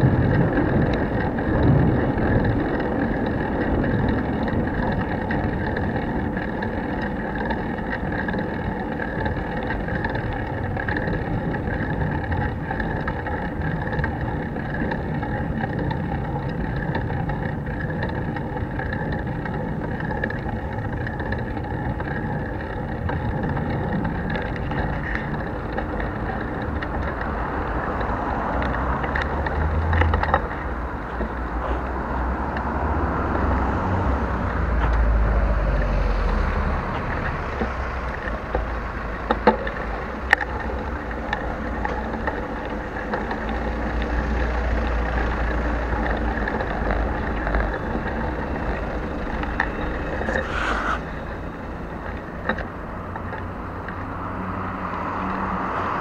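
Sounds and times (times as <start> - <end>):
bicycle rolling rumble: 0.0 - 56.0
wind buffeting microphone: 0.0 - 56.0.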